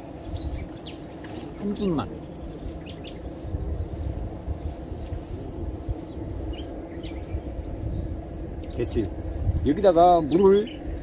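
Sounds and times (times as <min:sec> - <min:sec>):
bird chirps: 0:00.0 - 0:11.0
low rumble: 0:00.0 - 0:11.0.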